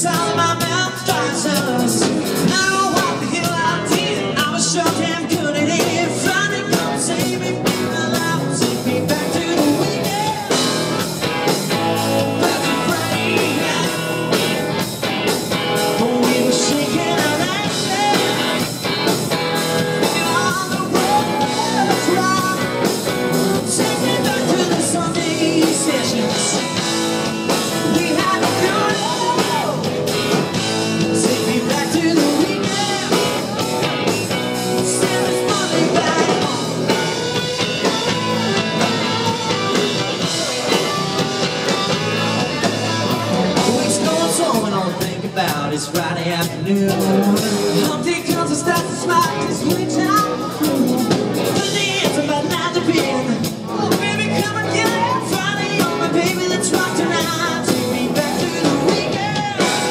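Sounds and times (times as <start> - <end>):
bass guitar: 0.0 - 59.9
electric guitars: 0.0 - 59.9
person singing lead vocals: 0.0 - 59.9
steady drum beat: 0.0 - 59.9.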